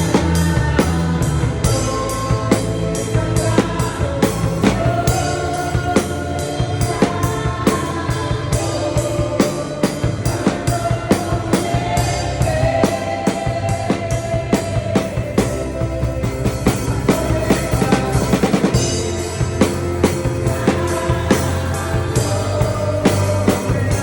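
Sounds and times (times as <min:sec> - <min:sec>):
backing track with held chords: 0:00.0 - 0:24.0
drum kit playing rock beat: 0:00.0 - 0:24.0.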